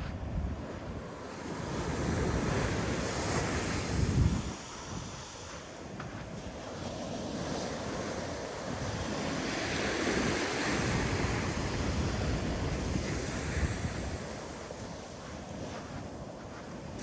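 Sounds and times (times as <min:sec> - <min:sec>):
wind on microphone: 0:00.0 - 0:17.0
ocean waves breaking: 0:01.0 - 0:17.0.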